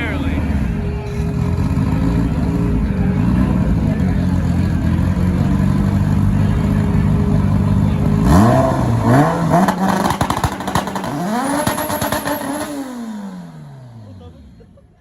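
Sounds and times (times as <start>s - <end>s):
drag car engine revving: 0.0s - 14.7s.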